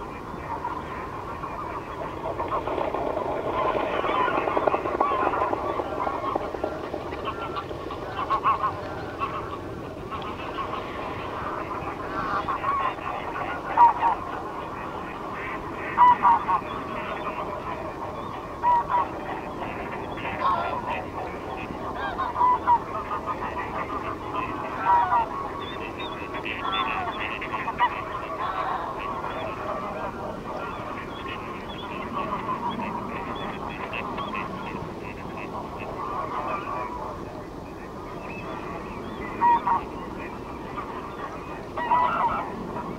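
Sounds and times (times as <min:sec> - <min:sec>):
geese honking loudly: 0:00.0 - 0:42.9
many overlapping goose calls: 0:00.0 - 0:42.9.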